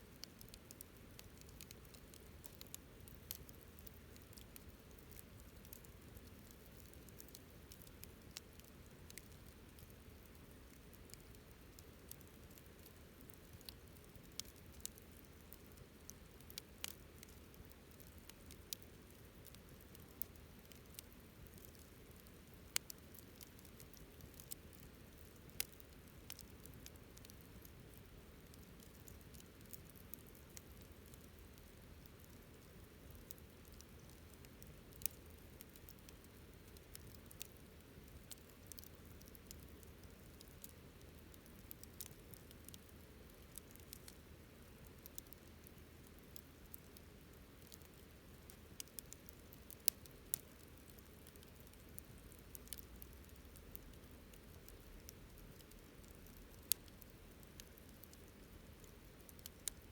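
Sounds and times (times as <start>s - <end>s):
low steady hiss: 0.0s - 59.9s
campfire crackling and popping: 0.1s - 59.9s.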